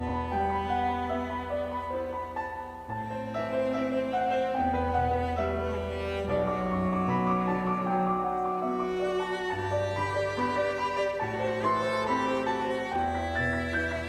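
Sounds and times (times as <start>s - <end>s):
slow instrumental music: 0.0s - 14.0s.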